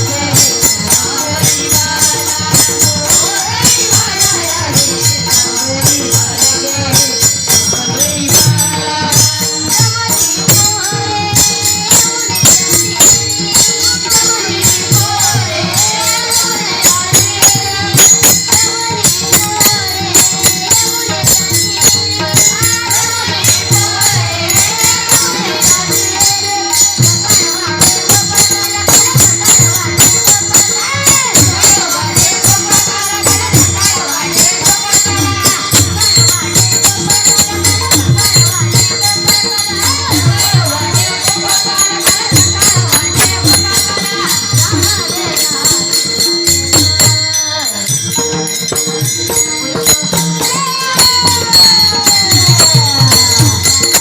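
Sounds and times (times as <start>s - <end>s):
group singing devotional song: 0.0s - 54.0s
jingling percussion: 0.0s - 54.0s.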